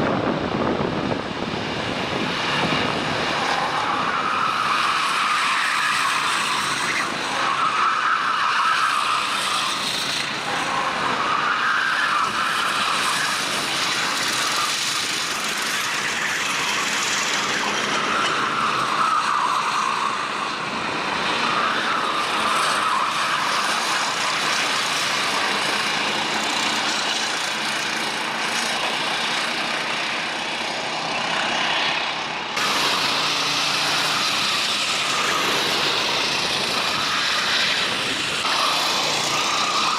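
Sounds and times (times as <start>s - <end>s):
racing kart engines revving: 0.0s - 39.9s.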